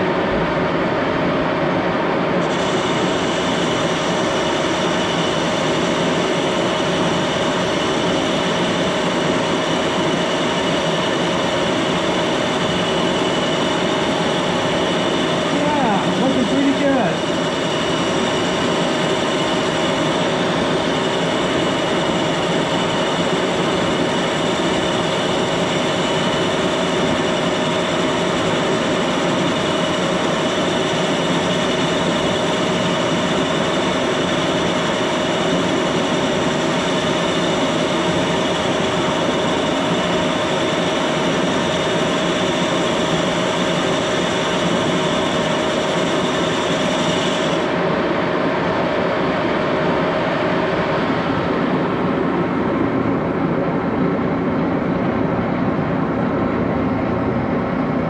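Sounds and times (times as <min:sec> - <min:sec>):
lathe machine hum: 0:00.0 - 0:58.0
steady whining tones: 0:00.0 - 0:58.0.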